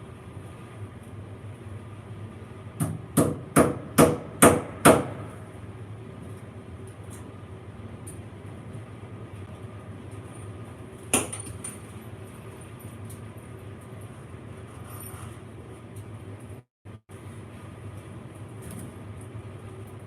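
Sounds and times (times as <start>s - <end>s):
steady low electrical hum: 0.0s - 20.0s.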